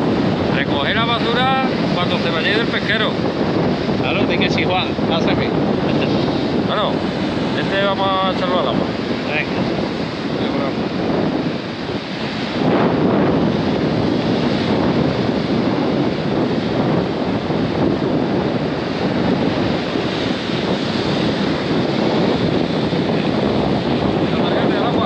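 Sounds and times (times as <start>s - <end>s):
ocean surf breaking on beach: 0.0s - 25.0s
wind buffeting microphone: 0.0s - 25.0s.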